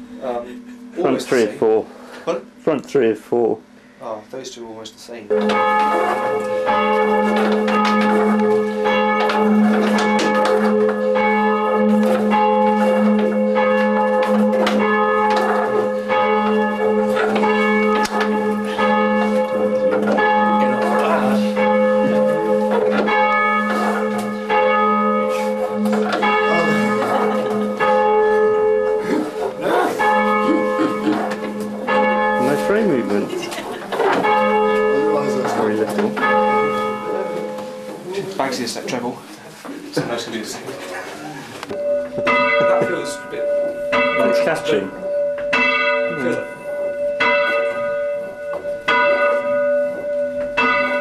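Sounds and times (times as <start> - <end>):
church bells ringing: 5.3 - 39.2, 41.7 - 51.0.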